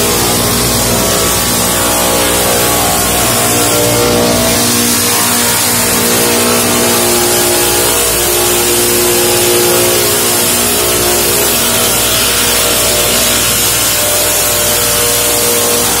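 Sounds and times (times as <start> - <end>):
saw mill whining: 0.0 - 16.0.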